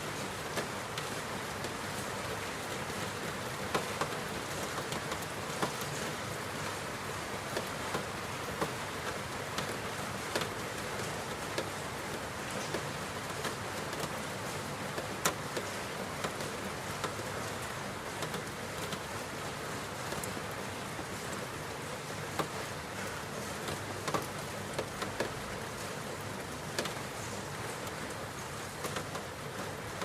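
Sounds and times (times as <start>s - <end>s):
raindrops ticking close by: 0.0s - 30.0s
steady rainfall hiss: 0.0s - 30.0s.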